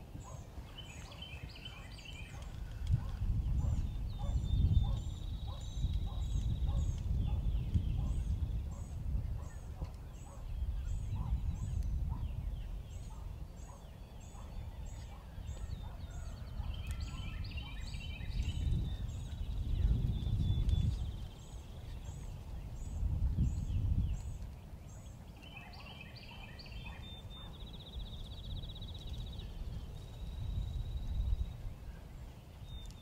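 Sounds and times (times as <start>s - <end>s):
bird chirping: 0.2s - 33.0s
wind rumble: 1.4s - 13.7s, 14.3s - 25.4s, 27.2s - 33.0s.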